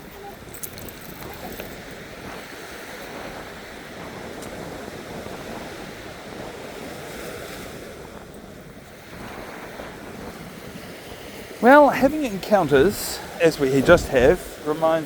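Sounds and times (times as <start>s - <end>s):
waves washing on a beach: 0.0s - 15.0s.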